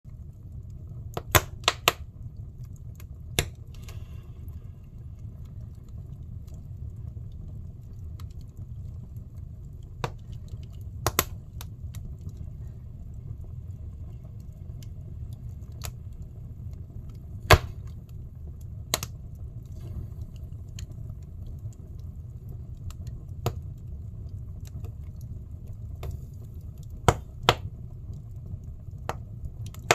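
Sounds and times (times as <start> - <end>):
fire flames rumbling: 0.0 - 29.9
firewood crackling and popping: 0.1 - 29.9.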